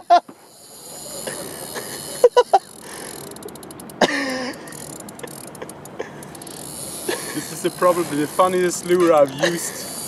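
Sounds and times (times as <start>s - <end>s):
fishing reel clicking: 0.1s - 10.0s.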